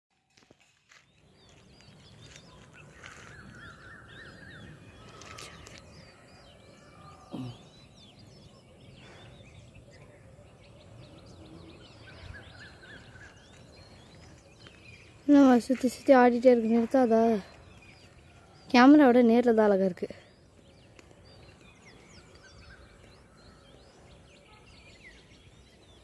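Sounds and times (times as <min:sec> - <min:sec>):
small birds chirping: 0:00.2 - 0:26.0.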